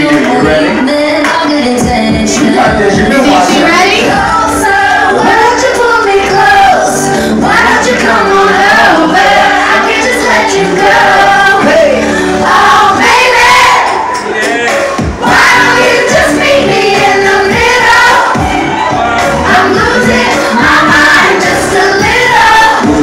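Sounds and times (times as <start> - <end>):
woman singing: 0.0 - 13.9, 15.2 - 18.6, 19.4 - 23.0
pop backing track: 0.0 - 23.0.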